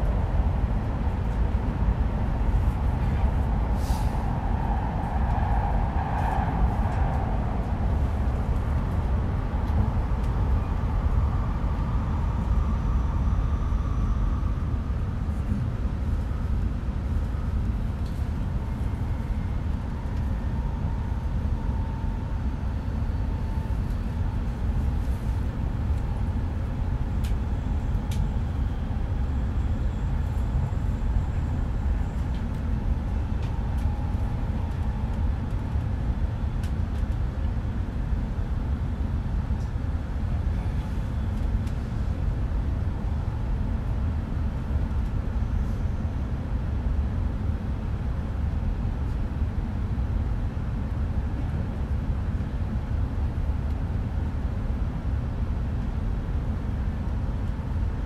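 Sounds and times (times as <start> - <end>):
train wheels rumbling on track: 0.0 - 48.5.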